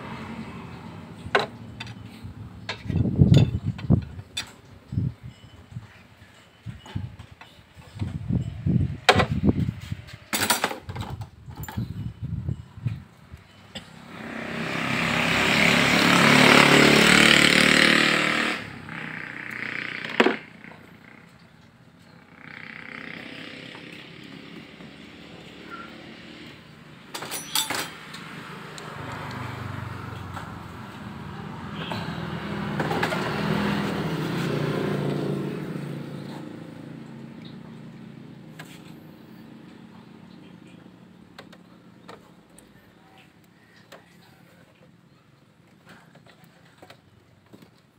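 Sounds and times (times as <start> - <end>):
passing vehicle engines: 0.0 - 7.1, 11.5 - 47.7.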